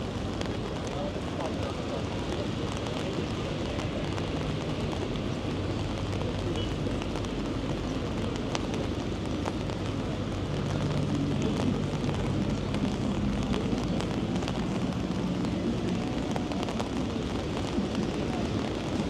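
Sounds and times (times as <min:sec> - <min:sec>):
city noise: 0:00.0 - 0:19.0
raindrops ticking: 0:00.0 - 0:19.0.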